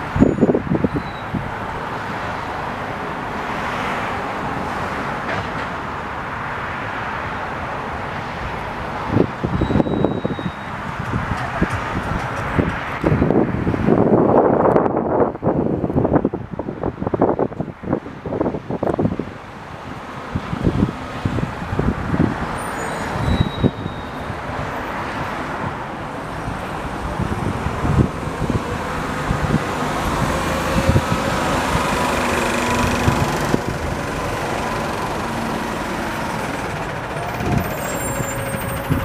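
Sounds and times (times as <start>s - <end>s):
wind buffeting microphone: 0.0s - 1.9s, 8.9s - 39.0s
passing motor traffic rumble: 0.0s - 39.0s.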